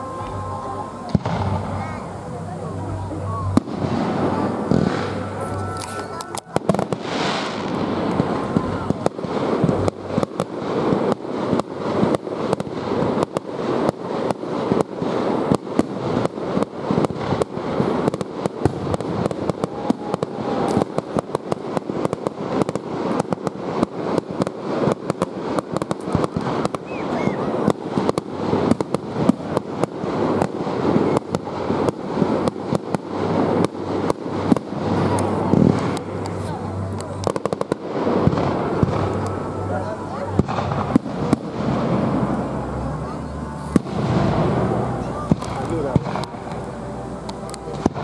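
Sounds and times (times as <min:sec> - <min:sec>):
fireworks bangs: 0:00.0 - 0:48.0
fireworks rumble and crackle: 0:00.0 - 0:48.0.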